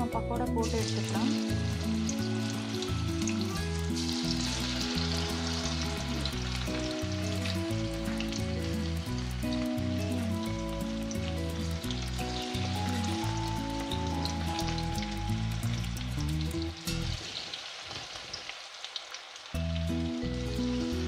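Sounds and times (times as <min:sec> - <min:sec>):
background music: 0:00.0 - 0:17.4, 0:19.6 - 0:21.0
batter deep-frying in oil: 0:00.0 - 0:21.0.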